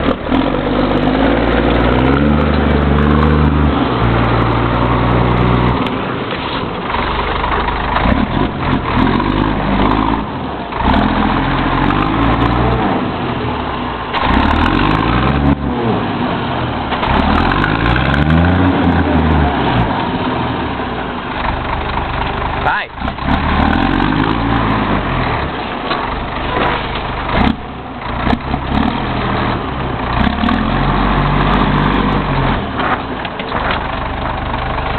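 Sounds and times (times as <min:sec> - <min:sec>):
truck diesel engine revving: 0:00.0 - 0:34.9.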